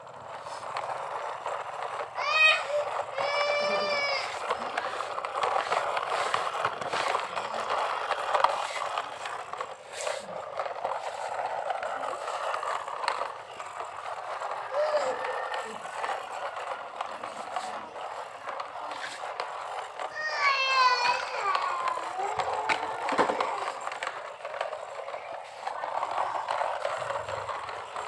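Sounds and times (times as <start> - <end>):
toy trucks scraping and rattling: 0.0 - 28.0
toy clicks: 0.1 - 28.0.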